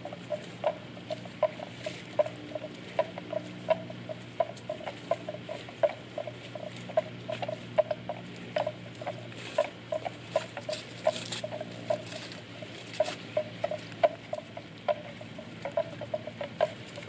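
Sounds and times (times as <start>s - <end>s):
animal tearing and chewing grass: 0.0s - 14.0s.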